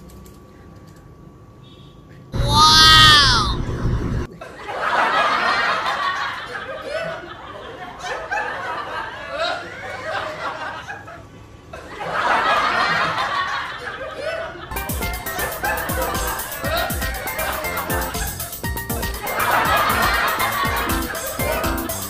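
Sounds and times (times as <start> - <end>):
crowd laughing: 4.2 - 22.0.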